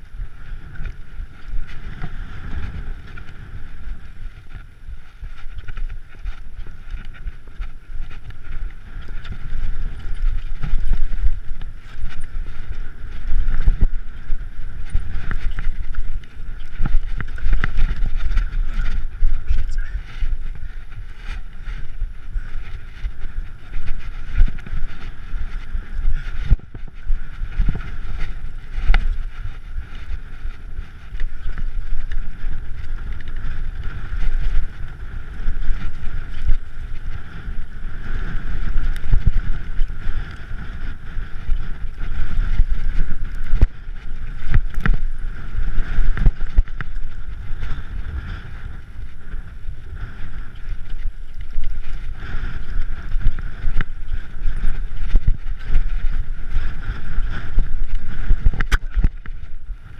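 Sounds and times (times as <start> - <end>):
bike knocking and rattling on stones: 0.0 - 59.9
bike tyres rumbling on rocky trail: 0.0 - 59.9
wind noise on microphone: 0.0 - 59.9.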